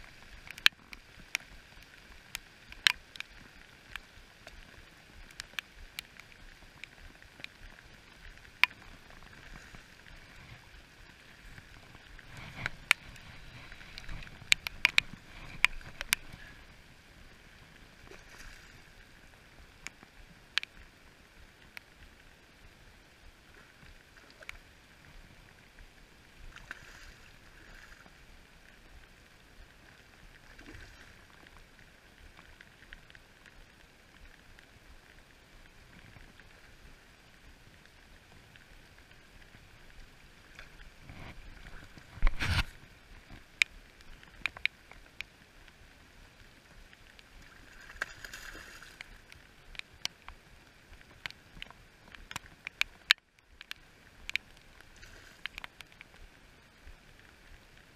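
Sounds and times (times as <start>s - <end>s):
rain falling on a river: 0.0s - 57.9s.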